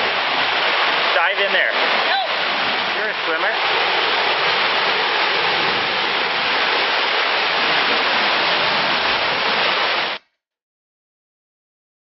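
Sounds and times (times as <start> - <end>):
whitewater rushing over rocks: 0.0 - 10.2.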